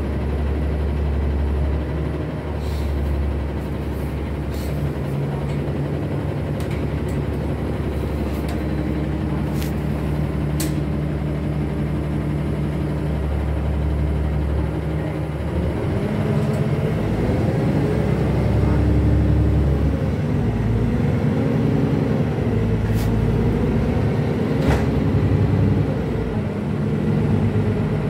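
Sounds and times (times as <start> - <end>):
bus engine from inside cabin: 0.0 - 28.0.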